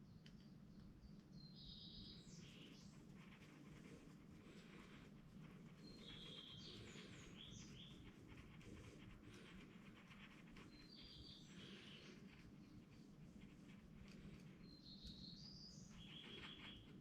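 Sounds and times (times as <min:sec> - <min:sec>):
faint distant bird chirps: 0:00.0 - 0:17.0
low background hum: 0:00.0 - 0:17.0.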